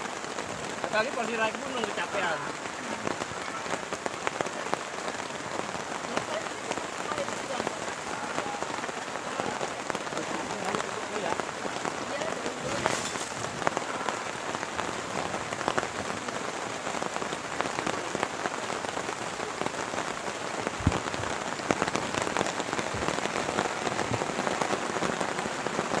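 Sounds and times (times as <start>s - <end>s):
heavy rain falling: 0.0s - 26.0s
raindrops ticking: 0.0s - 26.0s.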